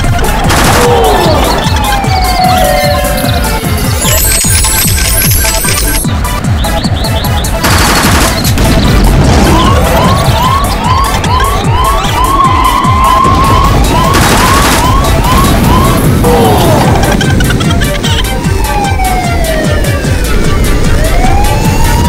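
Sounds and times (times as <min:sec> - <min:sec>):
fast electronic dance music: 0:00.0 - 0:22.0.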